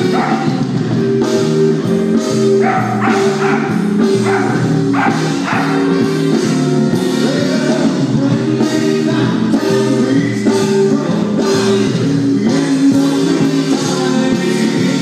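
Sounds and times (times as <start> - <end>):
music with singing and guitar: 0.0 - 15.0.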